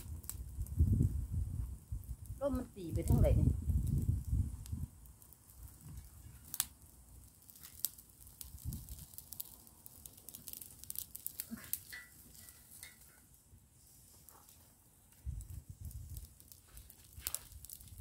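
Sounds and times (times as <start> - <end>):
twig fire crackling and popping: 0.0 - 18.0.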